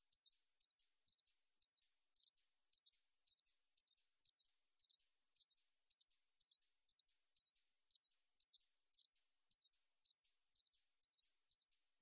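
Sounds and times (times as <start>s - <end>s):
bush-cricket chirping: 0.1s - 11.7s.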